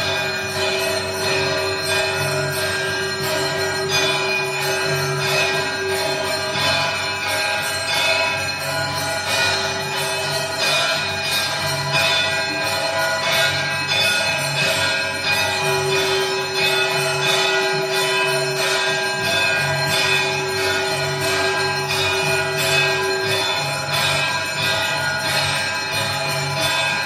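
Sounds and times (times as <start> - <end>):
bells ringing: 0.0 - 27.0.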